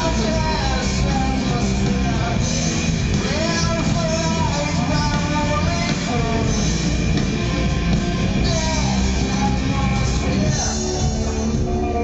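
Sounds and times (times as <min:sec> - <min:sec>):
bass guitar: 0:00.0 - 0:12.0
electric guitar: 0:00.0 - 0:12.0.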